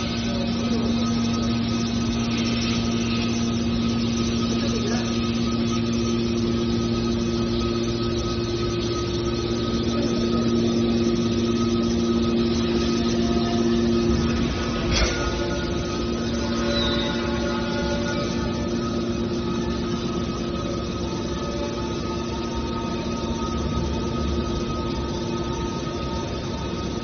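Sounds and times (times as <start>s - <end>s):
baler motor and pump humming: 0.0s - 27.0s.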